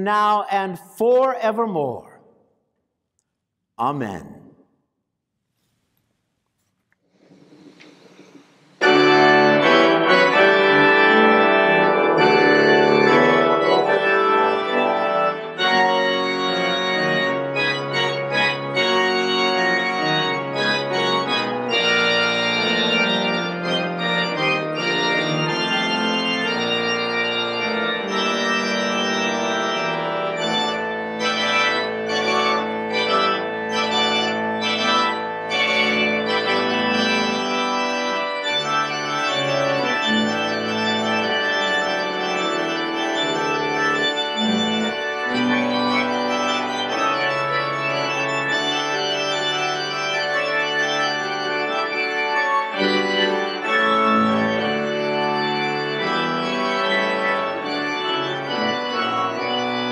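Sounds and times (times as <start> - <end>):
church organ chords: 0.0 - 2.3, 7.9 - 59.9.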